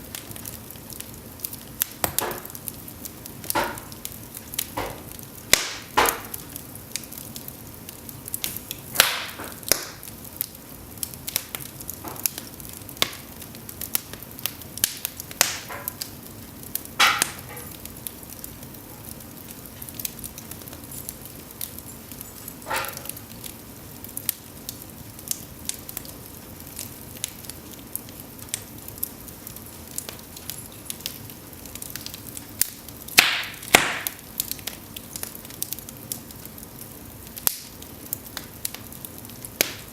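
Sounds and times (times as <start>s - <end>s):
fire crackling and hissing: 0.0s - 39.9s
sharp pops of burning logs: 0.0s - 39.9s.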